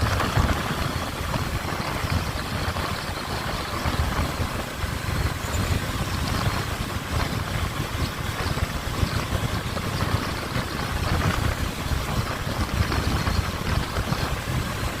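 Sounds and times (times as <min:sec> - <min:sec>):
motorcycle engine rumbling: 0:00.0 - 0:15.0
wind noise on microphone: 0:00.0 - 0:15.0.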